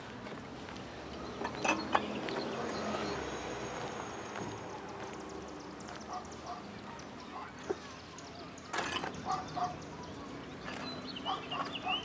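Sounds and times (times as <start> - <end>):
birds chirping: 1.0 - 12.0.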